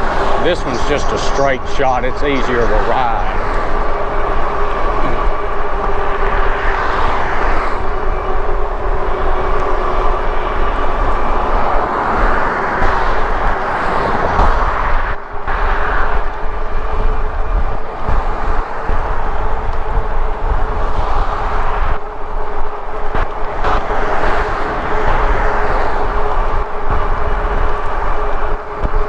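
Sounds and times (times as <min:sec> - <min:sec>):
steady motor whine: 0:00.0 - 0:29.0
wind buffeting microphone: 0:00.0 - 0:29.0.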